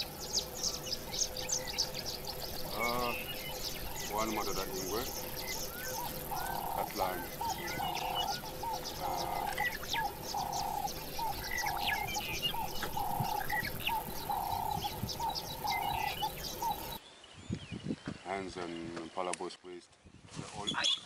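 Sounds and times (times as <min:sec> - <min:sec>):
birds chirping quickly: 0:00.0 - 0:21.0.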